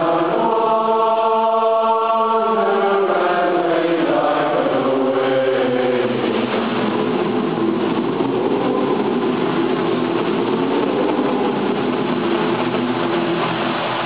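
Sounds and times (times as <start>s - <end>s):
choir singing held notes: 0.0s - 13.2s
steady hiss: 0.0s - 14.0s.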